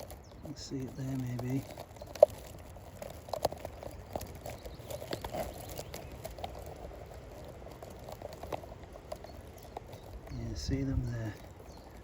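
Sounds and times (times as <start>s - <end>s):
light clicks of twigs: 0.0s - 12.0s
vegetation rustling and crackling: 0.0s - 12.0s.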